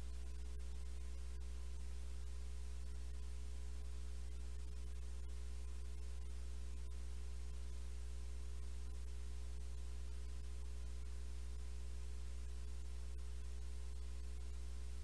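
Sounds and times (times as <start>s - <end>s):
electrical hum with low buzz: 0.0s - 15.0s.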